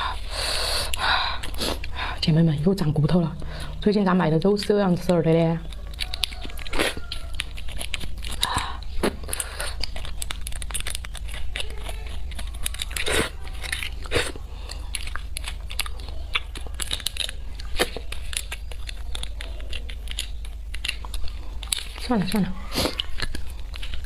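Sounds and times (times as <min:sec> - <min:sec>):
wet biting and chewing: 0:00.1 - 0:02.1, 0:03.5 - 0:24.0.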